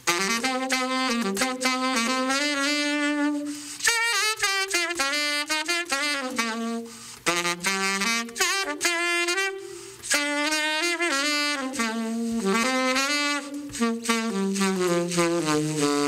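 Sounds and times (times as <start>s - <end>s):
saxophone solo melody: 0.0s - 16.0s.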